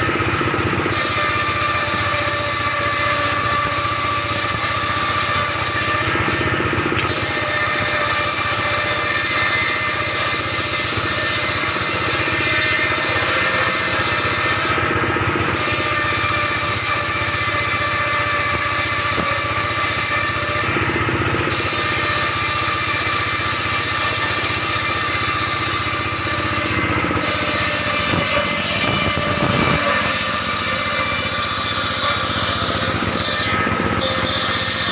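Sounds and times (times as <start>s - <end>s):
circular saw cutting wood: 0.0s - 34.9s.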